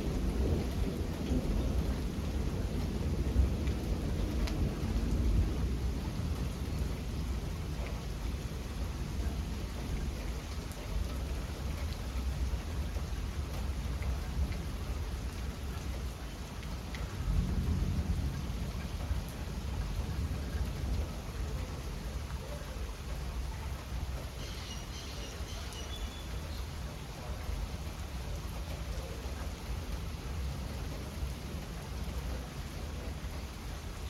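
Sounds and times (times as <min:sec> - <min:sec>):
low thunder rumbling: 0:00.0 - 0:34.0
steady rain: 0:00.0 - 0:34.0.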